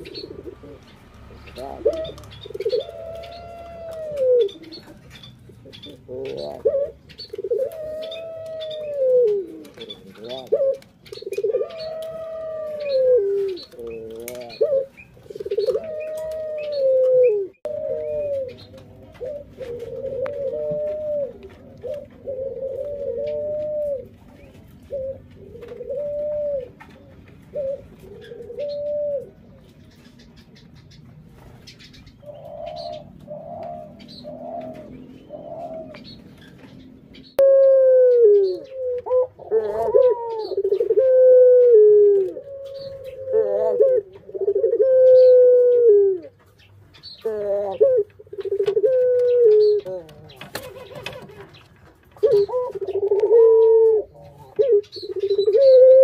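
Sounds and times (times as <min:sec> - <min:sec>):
doves cooing: 0:00.0 - 0:56.0.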